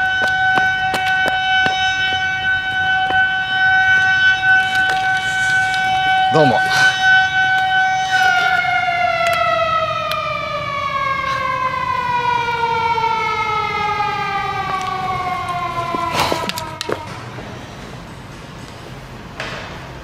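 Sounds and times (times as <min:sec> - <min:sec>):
siren winding down: 0:00.0 - 0:17.3.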